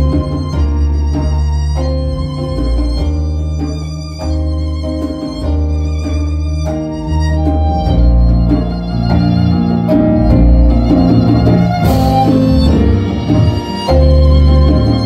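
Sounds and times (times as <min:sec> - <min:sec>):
double bass: 0:00.0 - 0:15.0
keyboard accompaniment: 0:00.0 - 0:15.0
violin melody: 0:00.0 - 0:15.0.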